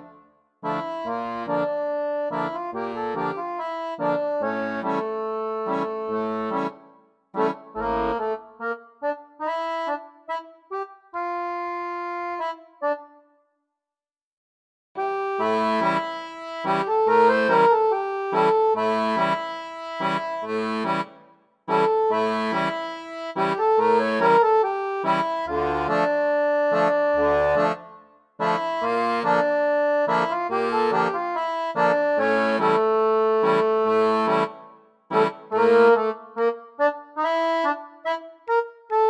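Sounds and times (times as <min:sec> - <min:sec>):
instrumental music with repeated chords: 0:00.0 - 0:13.5, 0:15.0 - 0:39.0.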